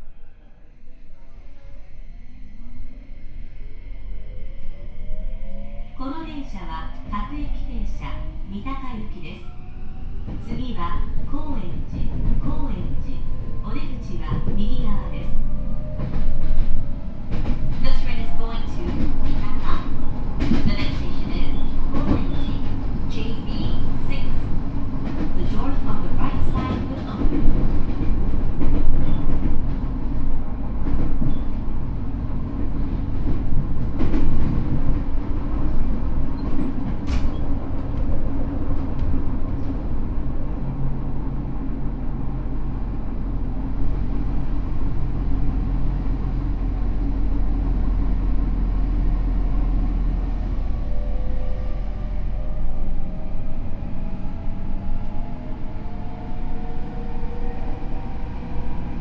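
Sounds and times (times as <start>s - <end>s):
subway car rumble: 0.0s - 59.0s.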